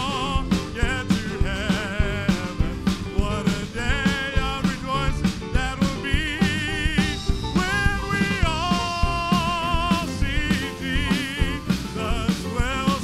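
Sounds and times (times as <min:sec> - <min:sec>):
band playing gospel music: 0:00.0 - 0:13.0.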